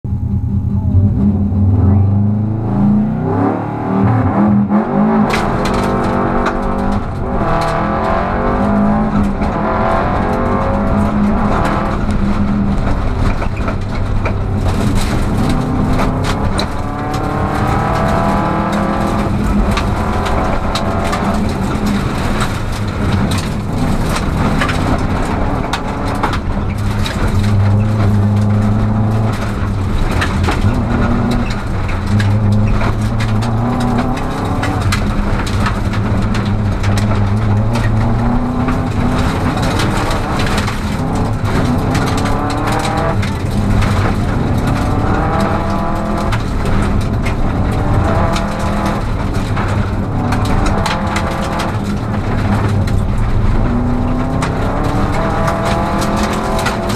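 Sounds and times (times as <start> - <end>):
rally car engine revving: 0.1 - 56.9
stones clattering against car underside: 5.3 - 56.9.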